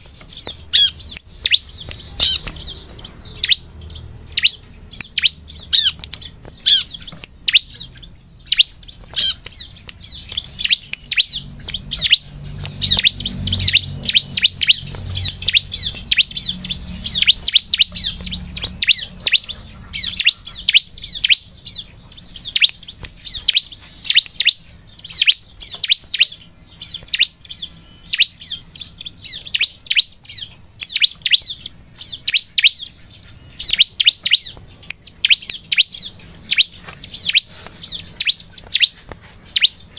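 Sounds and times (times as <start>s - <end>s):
bird singing high sweeping chirps: 0.0s - 39.9s.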